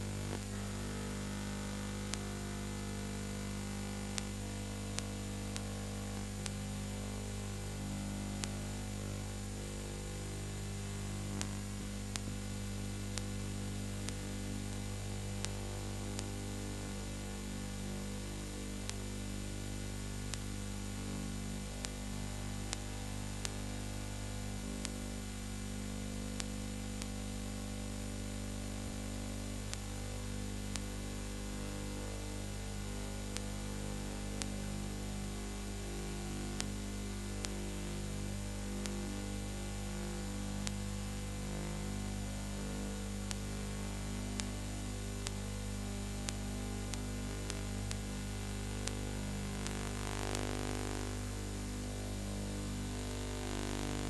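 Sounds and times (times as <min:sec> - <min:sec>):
electrical mains hum: 0:00.0 - 0:54.0
static hiss: 0:00.0 - 0:54.0.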